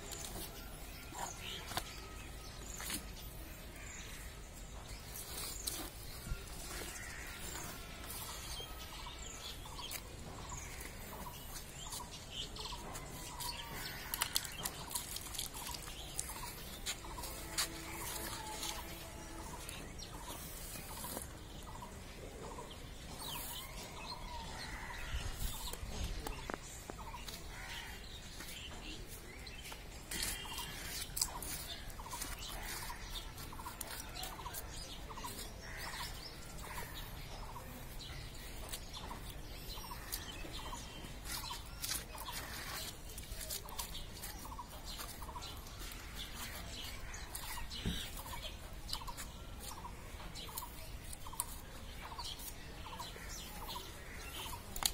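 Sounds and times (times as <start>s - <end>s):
birds calling: 0.0s - 54.9s.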